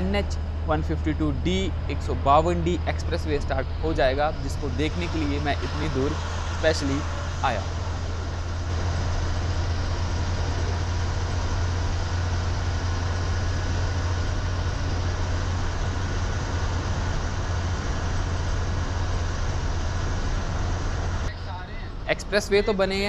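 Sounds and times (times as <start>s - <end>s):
bus engine drone: 0.0s - 23.0s
road noise rushing: 0.0s - 23.0s.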